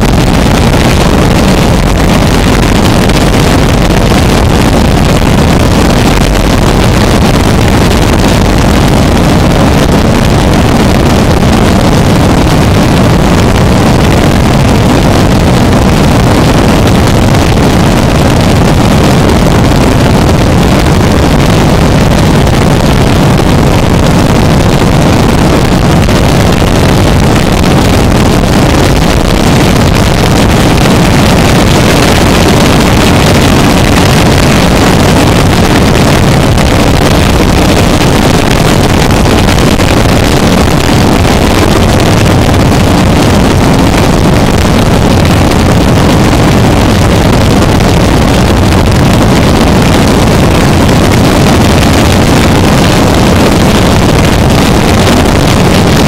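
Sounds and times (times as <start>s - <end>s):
harsh distorted noise music: 0.0s - 56.0s.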